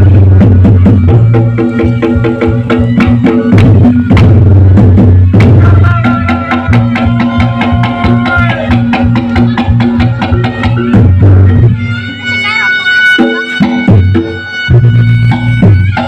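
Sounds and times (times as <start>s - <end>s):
drum and gong-chime strikes: 0.0s - 11.7s, 13.2s - 16.0s
reedy wind instrument melody: 0.0s - 16.0s.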